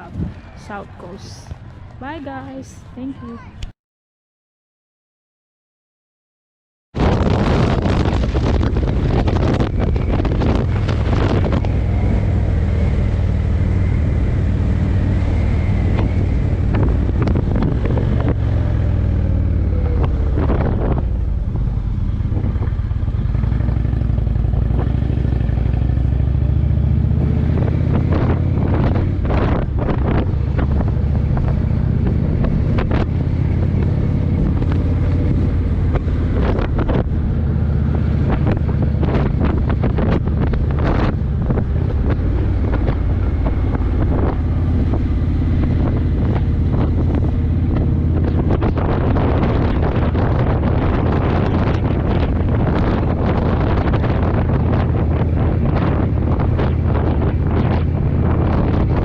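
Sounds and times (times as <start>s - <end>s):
wind buffeting microphone: 0.0s - 3.7s, 7.0s - 59.0s
motorcycle engine running: 7.1s - 59.0s.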